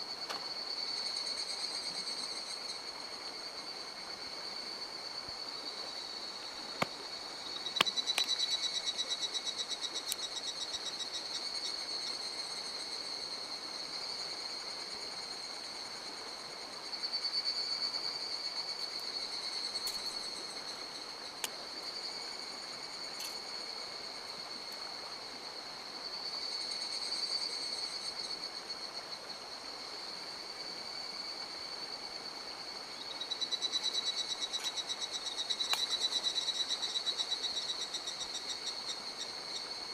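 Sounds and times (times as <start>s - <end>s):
stream water hiss: 0.0s - 39.9s.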